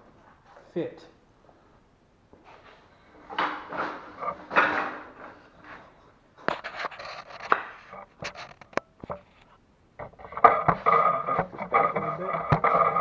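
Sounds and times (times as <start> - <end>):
wood scraping: 2.4 - 13.0.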